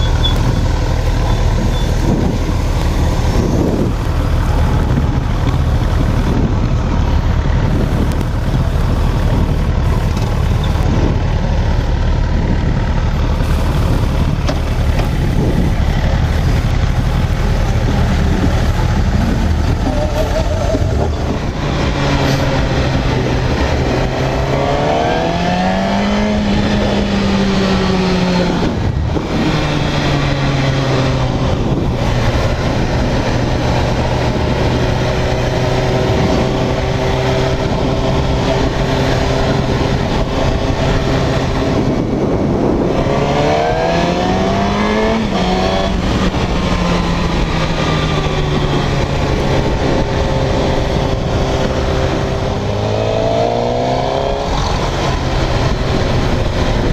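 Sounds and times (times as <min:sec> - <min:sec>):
motorcycle engine accelerating: 0:00.0 - 0:56.9
wind noise rushing: 0:00.0 - 0:56.9.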